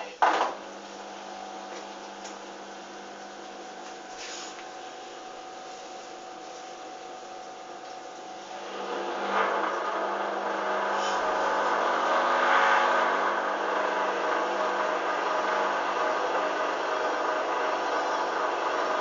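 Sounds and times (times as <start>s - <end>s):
washing machine motor turning drum: 0.0s - 19.0s.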